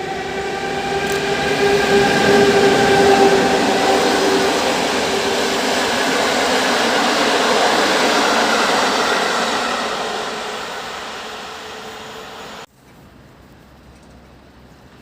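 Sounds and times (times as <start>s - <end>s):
train wheels rolling on rails: 0.0s - 15.0s.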